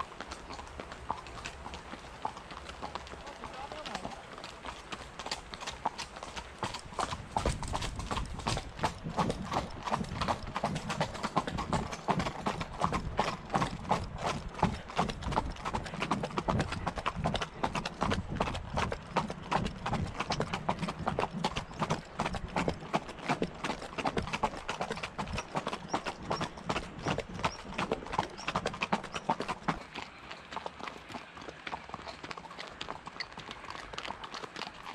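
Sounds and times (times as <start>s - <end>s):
hoofbeats on gravel: 0.0s - 34.9s.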